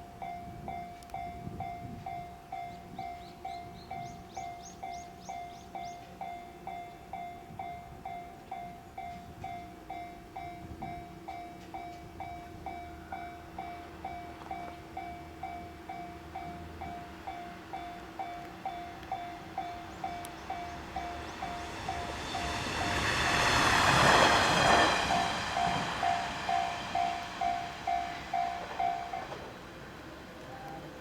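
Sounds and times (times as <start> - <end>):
diesel railcar engine rumble: 0.0 - 31.0.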